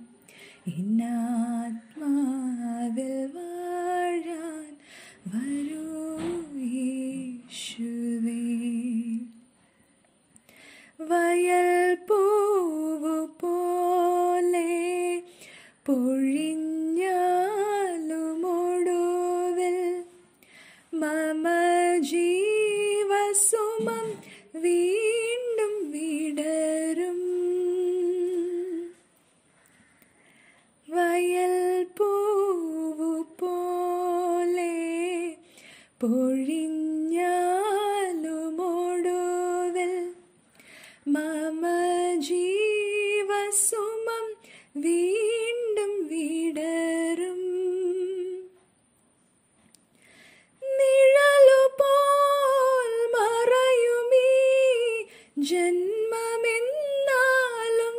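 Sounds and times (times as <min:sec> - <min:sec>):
woman singing unaccompanied: 0:00.0 - 0:09.5, 0:11.0 - 0:20.2, 0:20.9 - 0:29.0, 0:30.8 - 0:35.4, 0:36.0 - 0:40.3, 0:41.0 - 0:48.6, 0:50.6 - 0:57.9.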